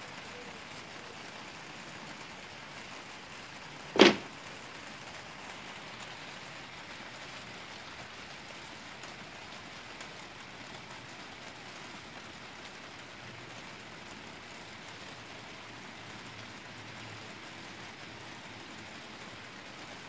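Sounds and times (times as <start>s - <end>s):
rain shower falling: 0.0s - 20.0s.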